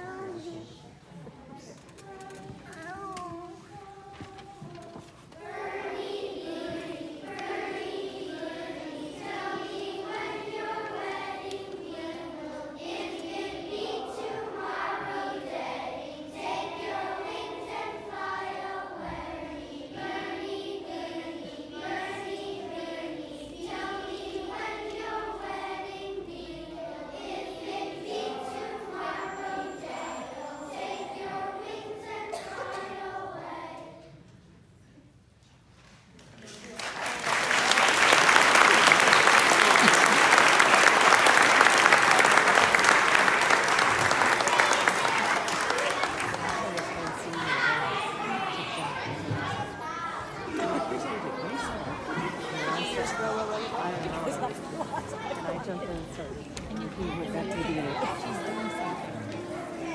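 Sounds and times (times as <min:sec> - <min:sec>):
children's choir singing: 0:00.0 - 0:35.0, 0:37.0 - 0:59.9.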